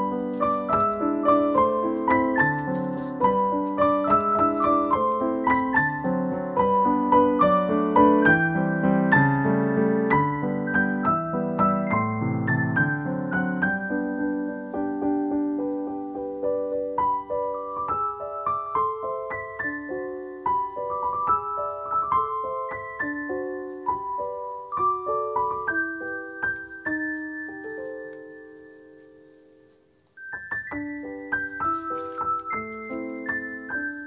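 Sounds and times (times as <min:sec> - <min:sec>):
low piano chords: 0:00.0 - 0:34.0
slow piano melody: 0:00.0 - 0:34.0.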